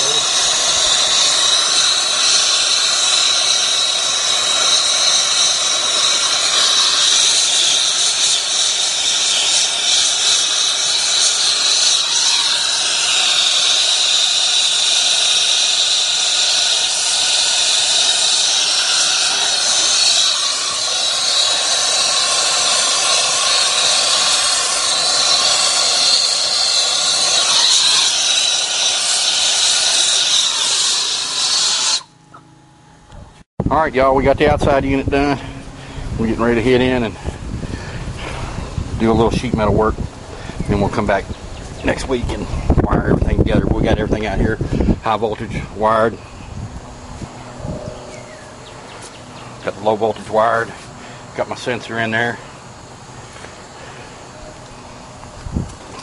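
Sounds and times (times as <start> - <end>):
torch flame hissing: 0.0 - 32.2, 34.4 - 56.0.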